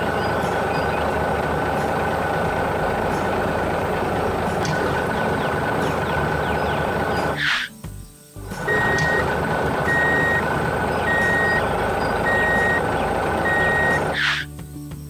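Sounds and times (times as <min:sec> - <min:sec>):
truck engine running: 0:00.0 - 0:07.5, 0:08.4 - 0:14.5
truck reversing alarm beeping: 0:00.0 - 0:07.5, 0:08.6 - 0:14.4.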